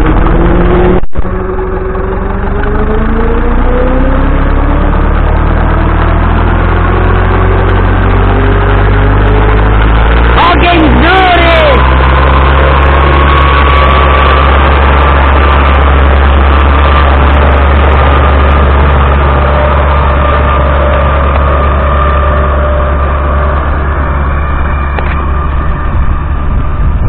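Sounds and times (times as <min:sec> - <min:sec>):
mower whine: 0:00.0 - 0:27.0
tractor diesel engine drone: 0:00.0 - 0:27.0.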